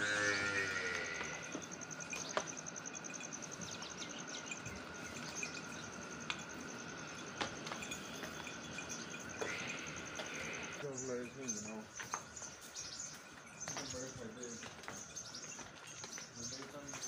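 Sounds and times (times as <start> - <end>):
insect high-pitched trill: 0.0 - 15.6.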